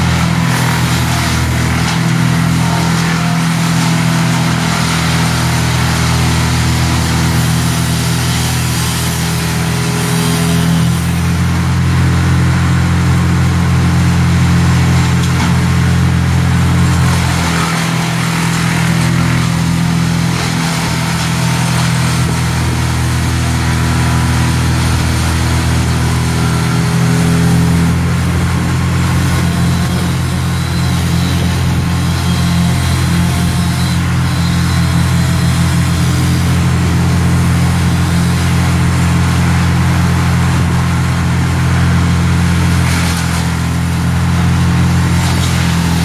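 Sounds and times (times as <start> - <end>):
large engine droning: 0.0 - 46.0.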